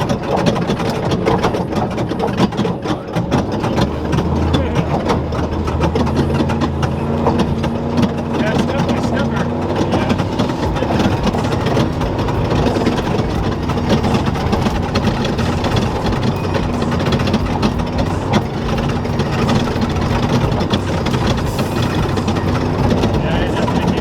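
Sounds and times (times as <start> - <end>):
knocks and rattles: 0.0 - 24.0
truck engine running: 0.0 - 24.0.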